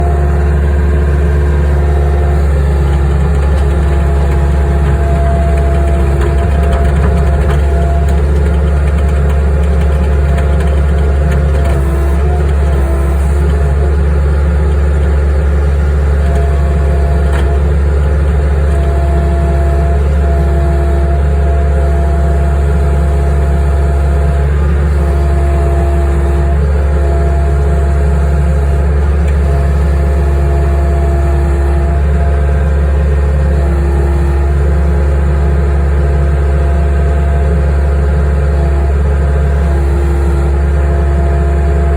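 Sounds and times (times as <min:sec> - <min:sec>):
skid steer engine drone: 0:00.0 - 0:41.9.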